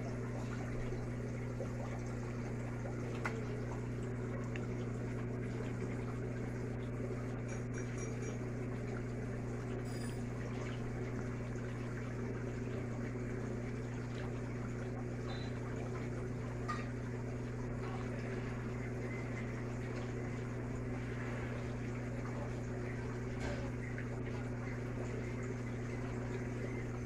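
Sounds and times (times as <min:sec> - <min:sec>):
aquarium pump humming: 0:00.0 - 0:27.0
water bubbling from air line: 0:00.0 - 0:27.0.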